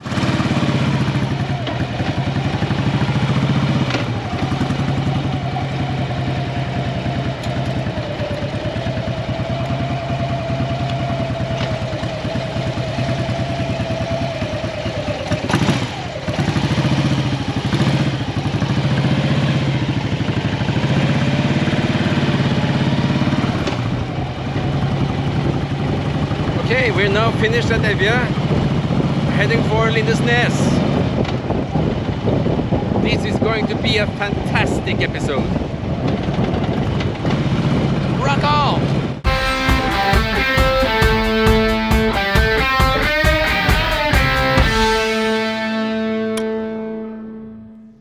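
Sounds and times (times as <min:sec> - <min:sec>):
motorcycle engine running: 0:00.0 - 0:34.4, 0:39.0 - 0:48.0.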